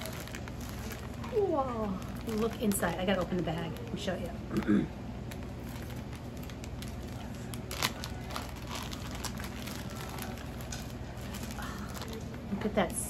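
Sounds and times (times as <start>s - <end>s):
plastic bag crinkling: 0.0s - 4.4s, 5.2s - 12.4s.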